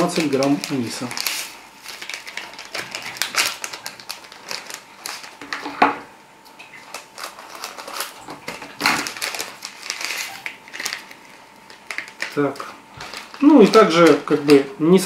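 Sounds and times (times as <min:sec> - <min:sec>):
foil sachets crinkling: 0:00.0 - 0:05.8, 0:06.5 - 0:15.0.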